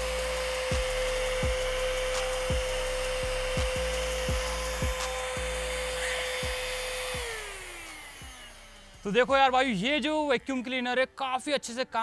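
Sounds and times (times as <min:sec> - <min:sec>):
handheld vacuum cleaner running: 0:00.0 - 0:09.8.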